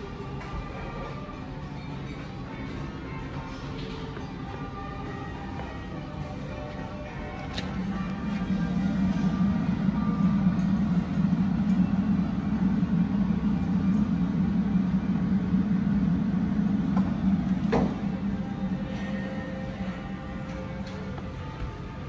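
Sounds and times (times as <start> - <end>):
fridge cooling unit humming: 0.0 - 22.0.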